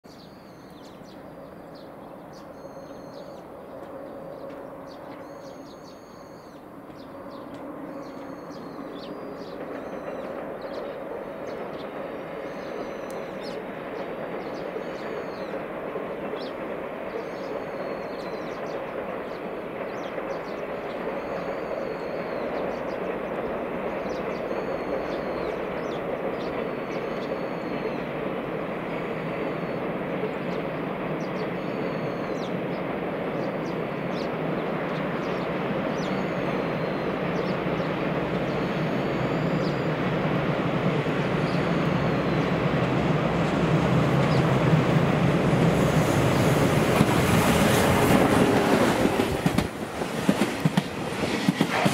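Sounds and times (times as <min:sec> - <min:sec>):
small birds chirping: 0:00.1 - 0:49.6
freight train wheels rumbling on rail: 0:00.1 - 0:51.9.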